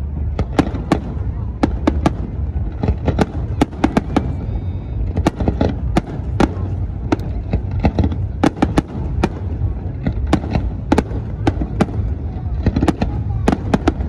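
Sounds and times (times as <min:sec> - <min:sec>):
firework bangs: 0:00.0 - 0:14.0
low rumble: 0:00.0 - 0:14.0.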